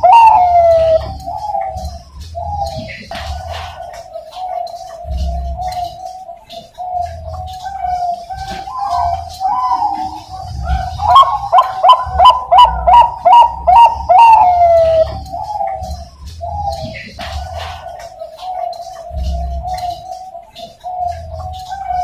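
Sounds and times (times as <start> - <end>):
dove cooing song: 0.0 - 22.0.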